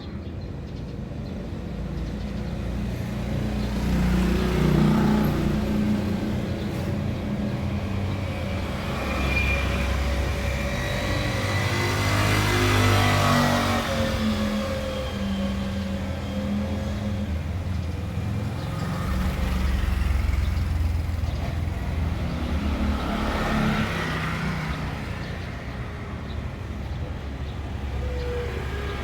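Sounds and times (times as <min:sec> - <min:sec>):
vehicle engine passing: 0:03.2 - 0:29.0.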